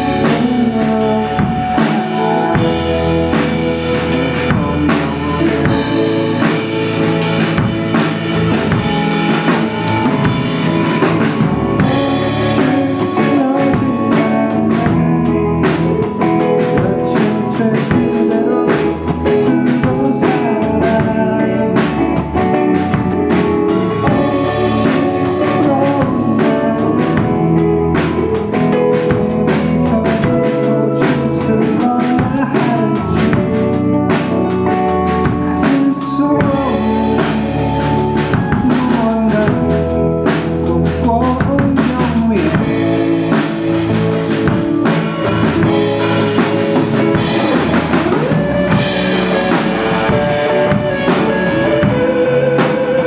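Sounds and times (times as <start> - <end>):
drum kit beat: 0.0 - 53.0
electric guitars: 0.0 - 53.0.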